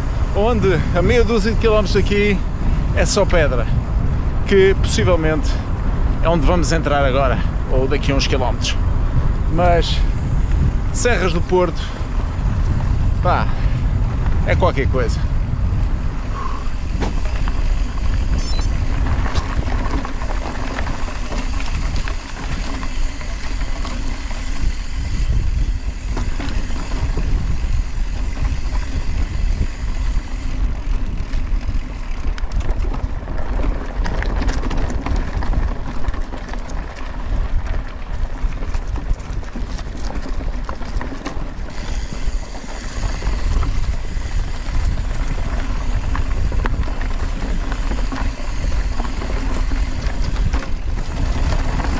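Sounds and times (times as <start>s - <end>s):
bike tyres crunching on dirt trail: 0.0s - 51.9s
wind on microphone: 0.0s - 51.9s.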